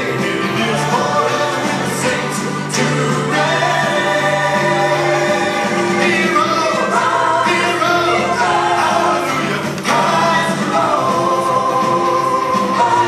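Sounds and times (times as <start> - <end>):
gospel choir singing: 0.0 - 13.0.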